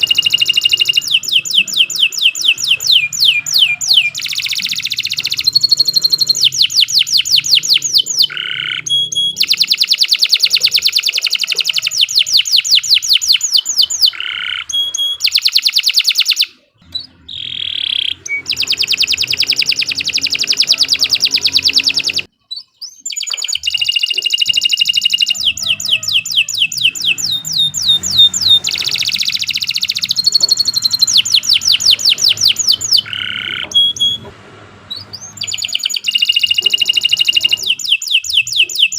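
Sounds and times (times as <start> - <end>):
canary singing rapid trills: 0.0 - 34.3, 34.9 - 38.9.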